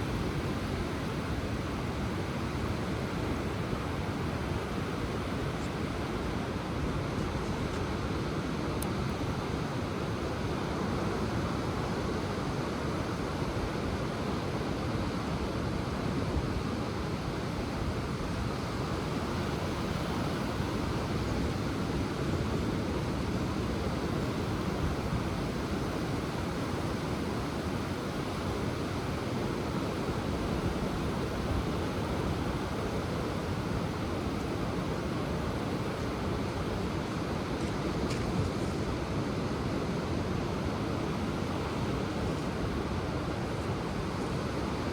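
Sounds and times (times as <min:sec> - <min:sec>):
ocean surf washing on shore: 0:07.8 - 0:44.9.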